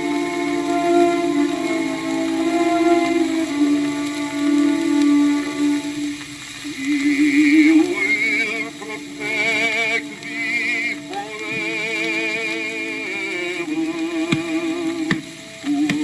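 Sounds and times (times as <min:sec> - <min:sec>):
man singing with vibrato: 0:00.0 - 0:16.0
record surface hiss: 0:00.0 - 0:16.0.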